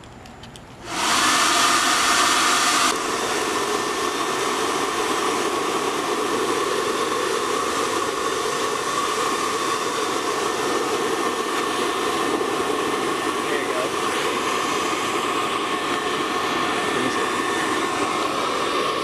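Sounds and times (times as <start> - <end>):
electric blower blowing air: 0.8 - 19.0.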